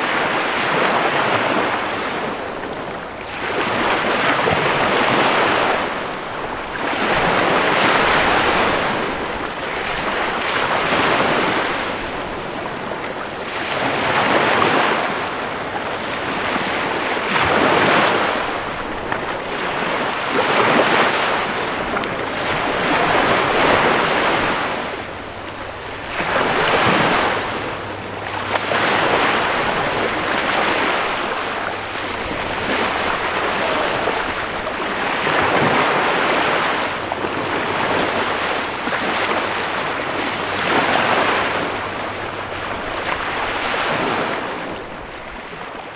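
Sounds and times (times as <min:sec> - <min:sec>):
small waves breaking on beach: 0:00.0 - 0:45.9.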